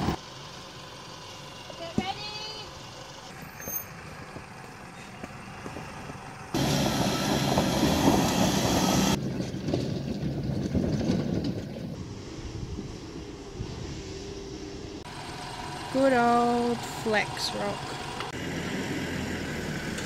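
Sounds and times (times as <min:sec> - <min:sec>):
vehicle engine at low speed: 0:00.0 - 0:20.0.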